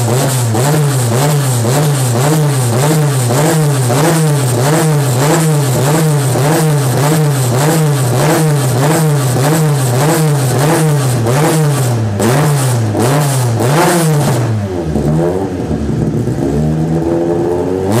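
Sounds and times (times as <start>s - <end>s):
car engine revving in blips: 0.0s - 18.0s.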